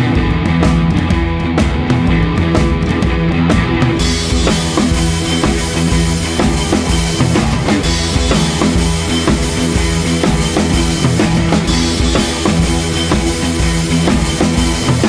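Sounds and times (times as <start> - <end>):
background music with drum beat: 0.0 - 15.0.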